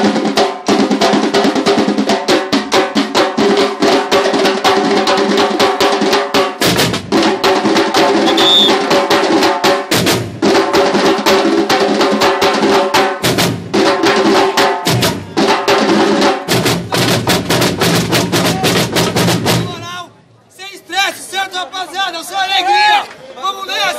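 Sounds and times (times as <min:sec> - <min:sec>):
deep drum beats: 0:00.0 - 0:20.0
fast samba drumming: 0:00.0 - 0:20.0.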